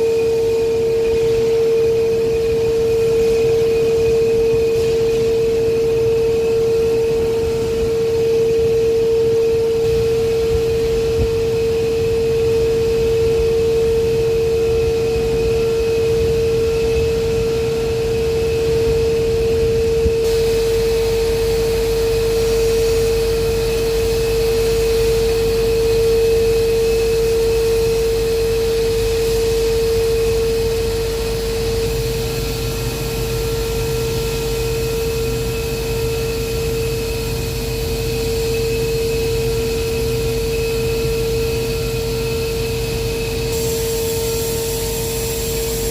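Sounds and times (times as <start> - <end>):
machinery high whine: 0.0 - 45.9
machinery low rumble: 0.0 - 45.9.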